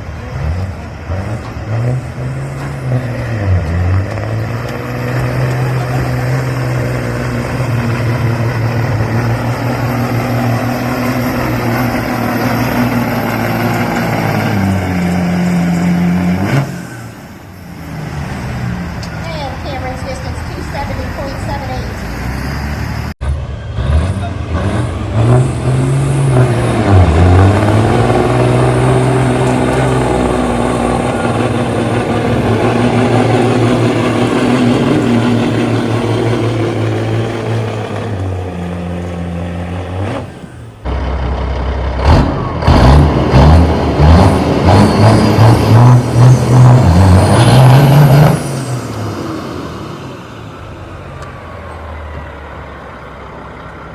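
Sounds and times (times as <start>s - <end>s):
diesel truck engine at high revs: 0.0s - 53.9s.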